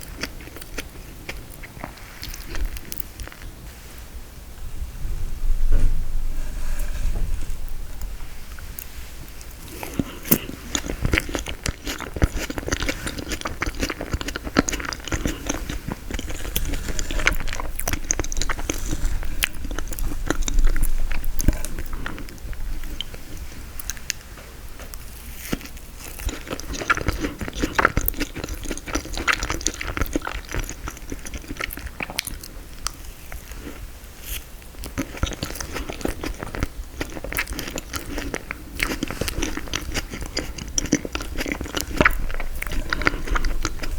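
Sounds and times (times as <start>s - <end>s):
crunchy chewing of frozen cake: 0.0s - 3.6s, 8.6s - 43.9s.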